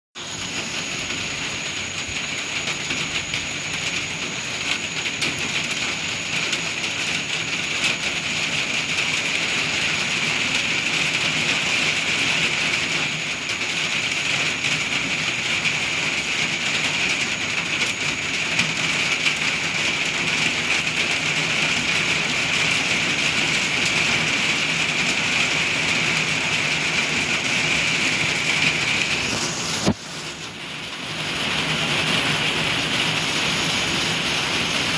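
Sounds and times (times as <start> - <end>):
steady rain shower: 0.2 - 34.9.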